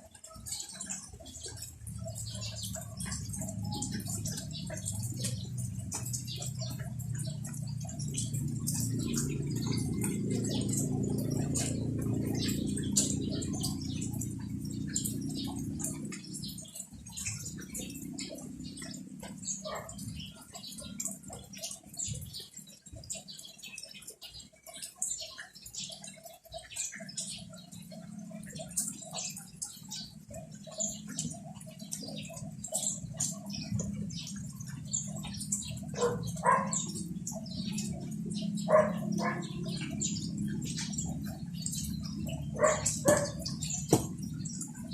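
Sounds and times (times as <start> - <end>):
animal calls: 0.0 - 22.7, 27.5 - 44.9
rain pattering: 0.0 - 44.9.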